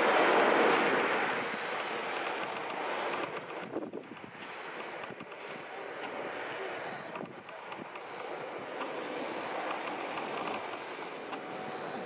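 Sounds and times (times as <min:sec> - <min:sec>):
distant jet engine rushing: 0:00.0 - 0:12.0.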